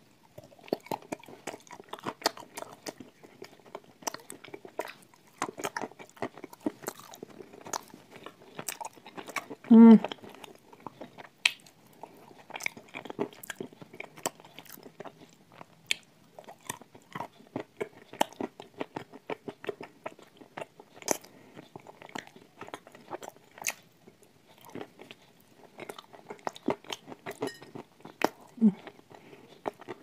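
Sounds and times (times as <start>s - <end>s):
chewing crunchy clay: 0.2s - 30.0s.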